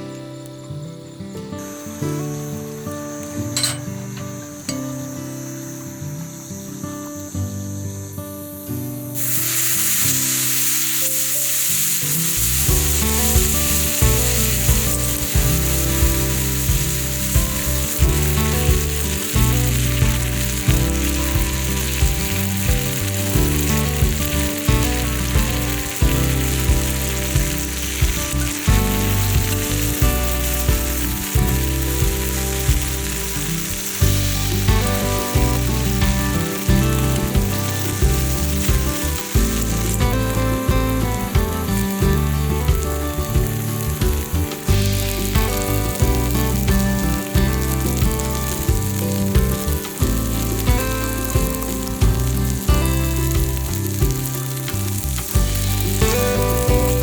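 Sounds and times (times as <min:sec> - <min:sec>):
food sizzling: 0:00.0 - 0:57.0
background music with beat: 0:11.3 - 0:57.0.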